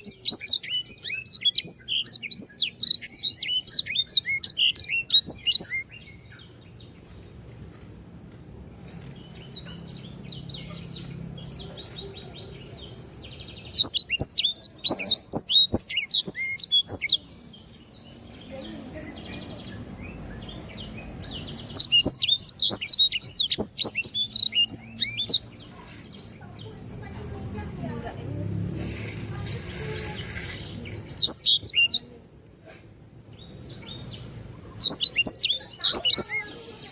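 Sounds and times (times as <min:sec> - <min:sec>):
songbird chirping and trilling: 0:00.0 - 0:32.5, 0:33.2 - 0:36.9.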